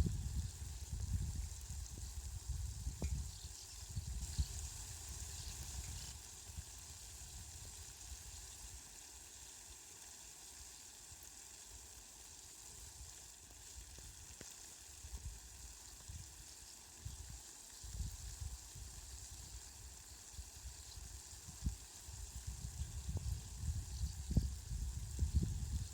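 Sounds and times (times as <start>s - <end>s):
steady rain hiss: 0.0s - 25.9s.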